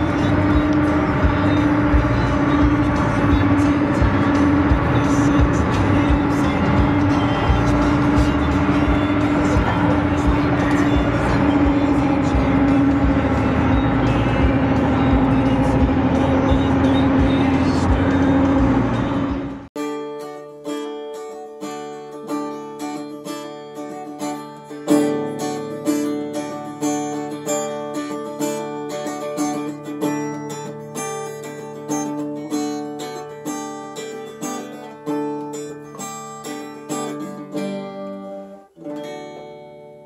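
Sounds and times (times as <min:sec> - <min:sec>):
acoustic guitar plucking: 0:00.0 - 0:40.0.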